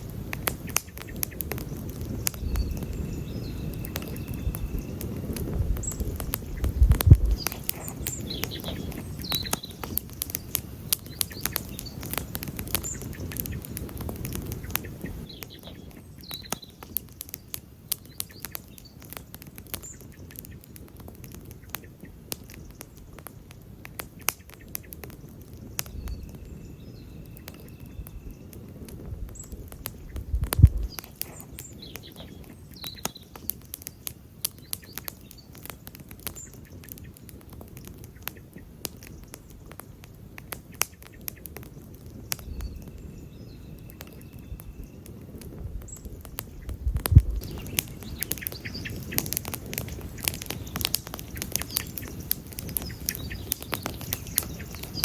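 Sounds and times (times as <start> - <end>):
campfire crackling: 0.0 - 55.0
loud fire pops: 0.0 - 55.0
rustle of flame: 0.0 - 55.0.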